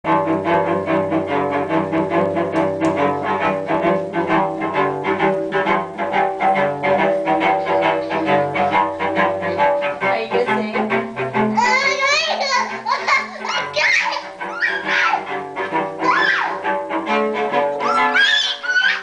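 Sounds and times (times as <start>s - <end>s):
bowed cello blues tune: 0.0s - 19.0s.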